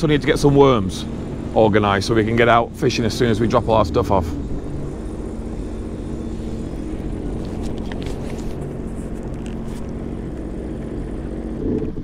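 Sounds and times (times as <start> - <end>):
jet ski engine idling: 0.0 - 12.0.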